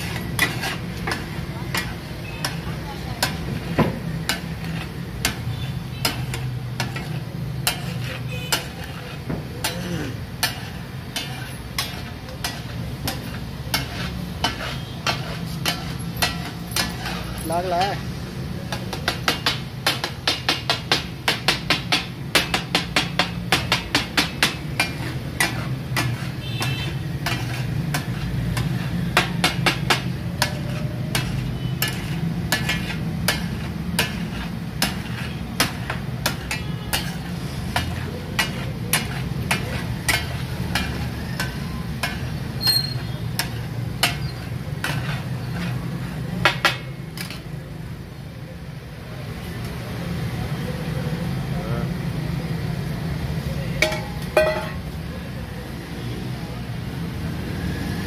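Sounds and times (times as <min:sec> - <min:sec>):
metal spatulas clacking on griddle: 0:00.0 - 0:18.0, 0:18.7 - 0:47.6, 0:53.8 - 0:55.0.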